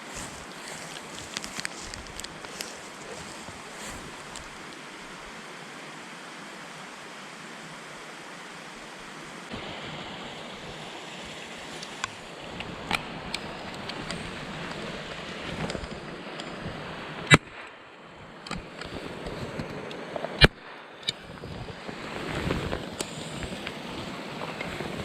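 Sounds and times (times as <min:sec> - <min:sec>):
mountain stream rushing: 0:00.0 - 0:25.0.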